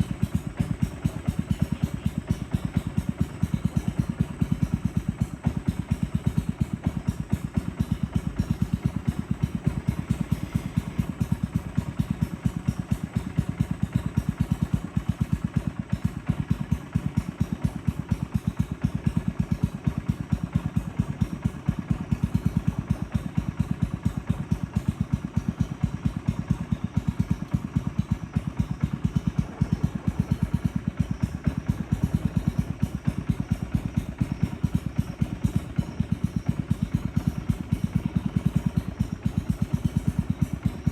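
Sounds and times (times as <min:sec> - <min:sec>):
boat motor running: 0:00.0 - 0:40.9.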